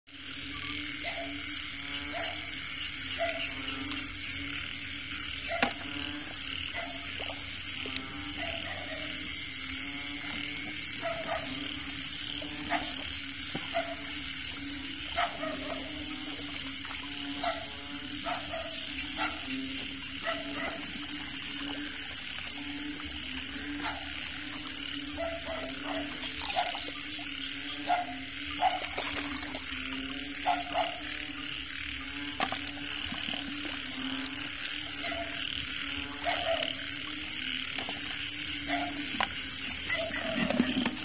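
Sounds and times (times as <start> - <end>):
frog background chorus: 0.1 - 41.0
frogs croaking: 0.1 - 41.0.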